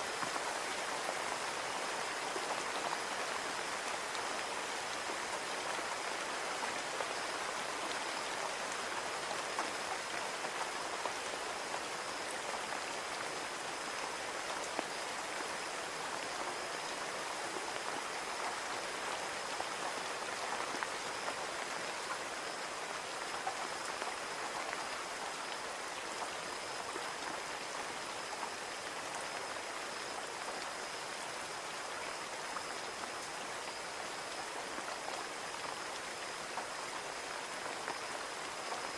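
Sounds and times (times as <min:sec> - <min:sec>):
rain pattering on a window: 0:00.0 - 0:38.9.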